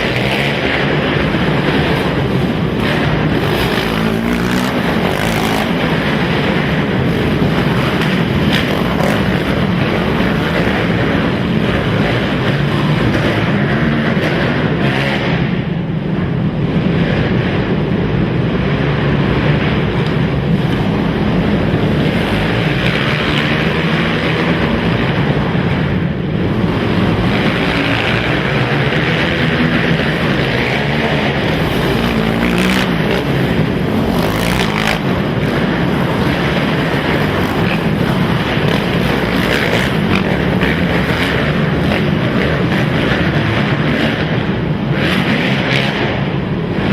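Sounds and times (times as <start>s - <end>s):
racing atv engines: 0.0s - 46.9s.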